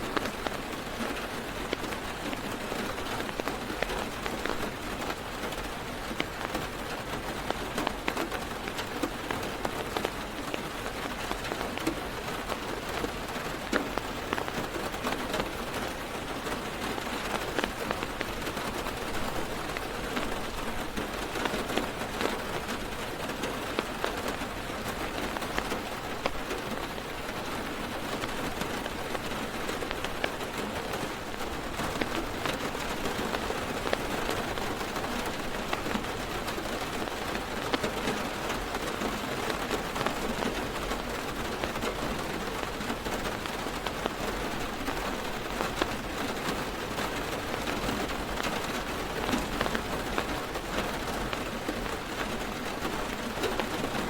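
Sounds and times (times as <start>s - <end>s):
heavy rain on a car roof: 0.0s - 54.0s.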